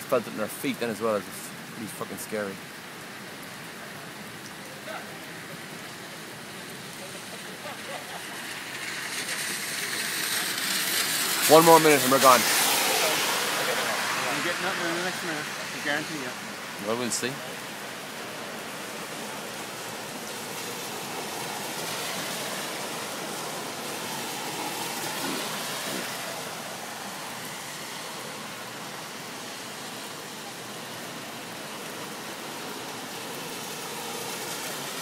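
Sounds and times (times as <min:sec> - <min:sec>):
rain hissing: 0:00.0 - 0:35.0.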